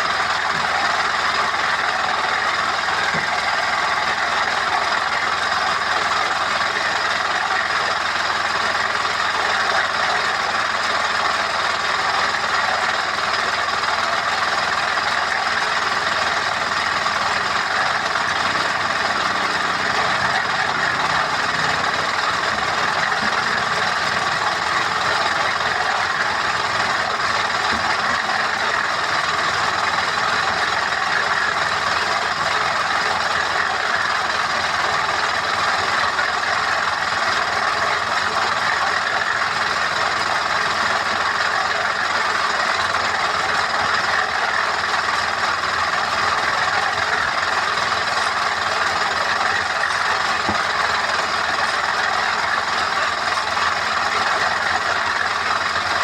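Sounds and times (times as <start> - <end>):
machine noise: 0.0 - 56.0.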